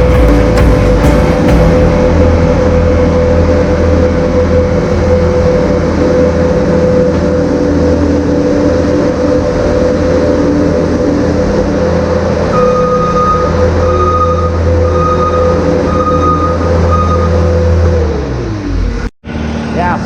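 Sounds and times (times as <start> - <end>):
skid steer engine running: 0.0 - 20.0
steady whine: 0.0 - 20.0.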